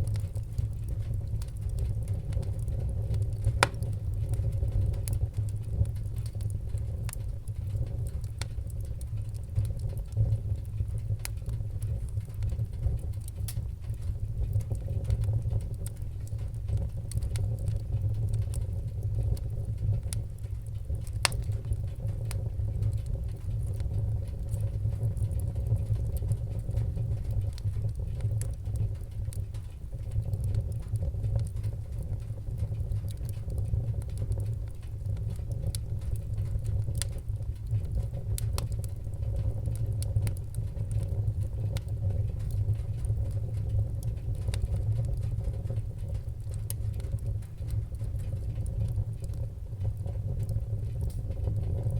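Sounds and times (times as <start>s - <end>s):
fire crackling in a fireplace: 0.0s - 51.9s.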